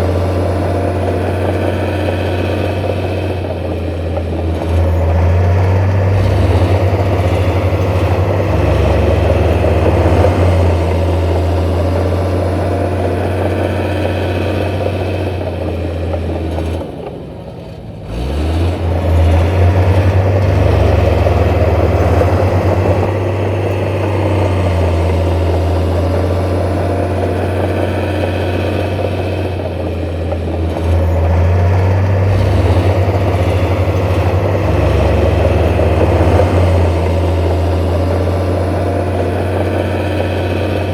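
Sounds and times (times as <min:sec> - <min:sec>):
diesel earthmoving machinery engine: 0:00.0 - 0:40.9.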